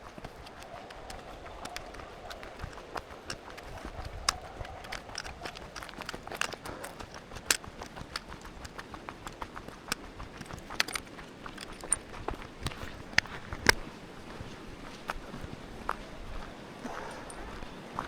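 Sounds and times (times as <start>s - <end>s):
footsteps on rock: 0.0s - 18.0s.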